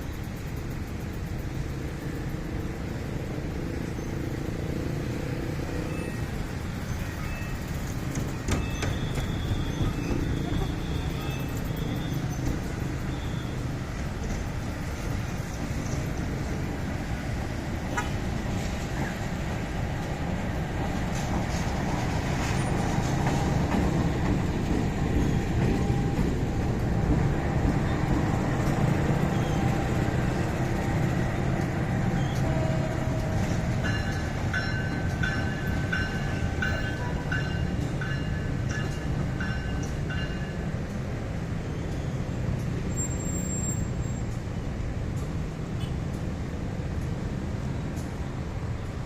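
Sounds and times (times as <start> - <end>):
heavy vehicle traffic rumble: 0.0 - 49.0.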